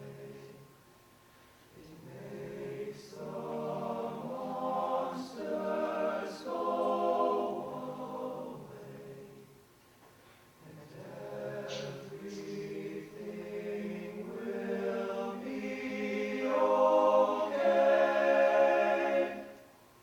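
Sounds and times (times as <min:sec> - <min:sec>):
vocal ensemble singing in harmony: 0:00.0 - 0:00.7, 0:01.8 - 0:09.6, 0:10.6 - 0:19.8.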